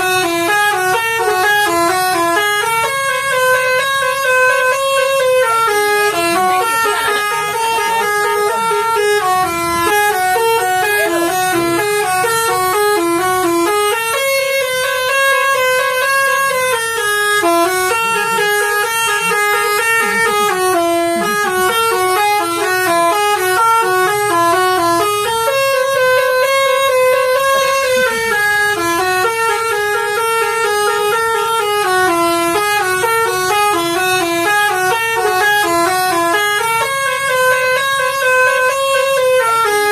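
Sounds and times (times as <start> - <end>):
bus horn playing melody: 0.0 - 39.9.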